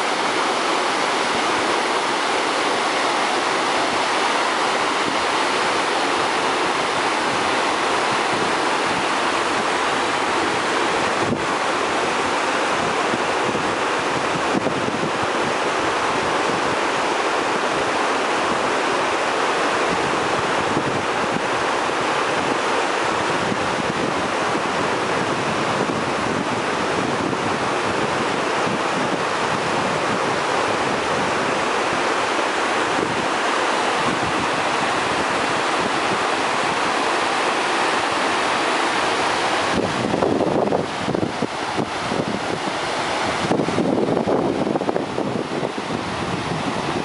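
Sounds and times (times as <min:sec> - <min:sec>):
river rushing: 0:00.0 - 0:47.0.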